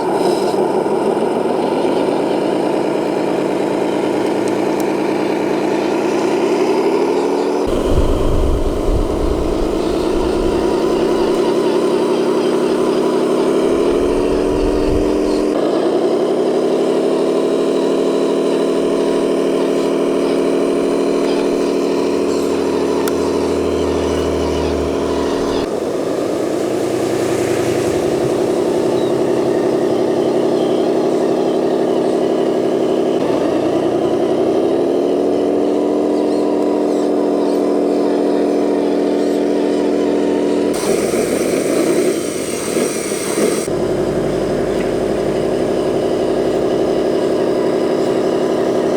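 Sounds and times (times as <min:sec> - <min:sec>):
model motor whining: 0:00.0 - 0:48.9.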